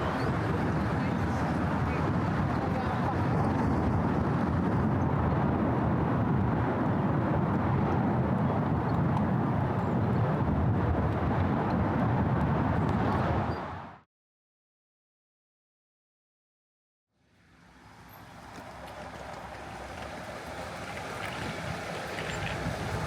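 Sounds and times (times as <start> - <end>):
city traffic rumble: 0.0 - 14.0, 17.2 - 23.0.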